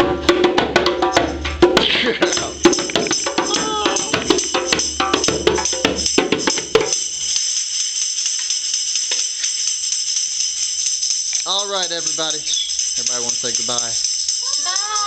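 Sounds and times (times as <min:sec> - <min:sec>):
tambourine jingling: 0:01.0 - 0:15.0.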